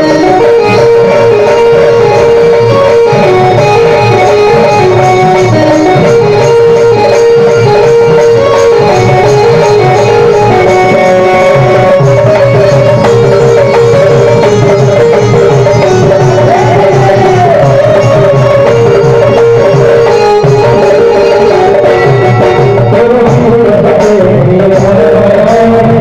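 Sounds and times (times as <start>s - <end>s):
folk dance melody: 0.0s - 26.0s
hand drum rhythm: 0.0s - 26.0s.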